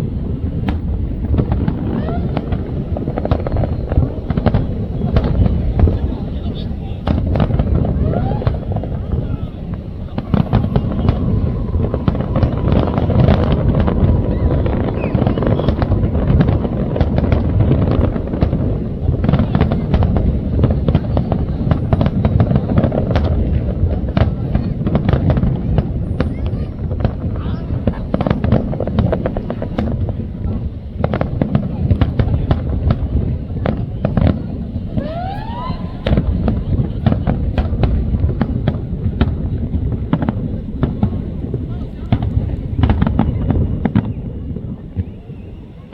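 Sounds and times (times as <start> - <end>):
crowd voices: 0.0 - 45.9
fireworks rumble and crackling bangs: 0.0 - 45.9.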